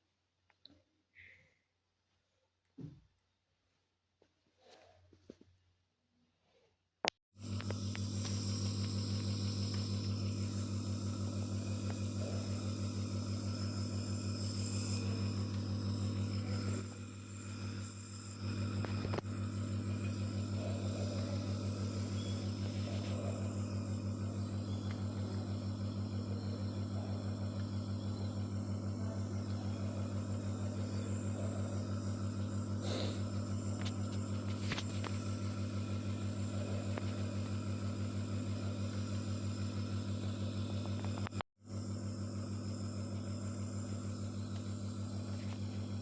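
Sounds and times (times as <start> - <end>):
low pulsing motor hum: 7.4 - 46.0.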